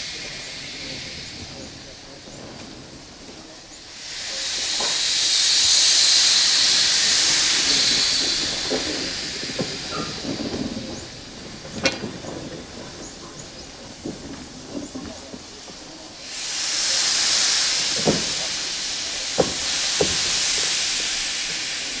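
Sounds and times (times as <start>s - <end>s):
steam hissing loudly: 0.0s - 22.0s.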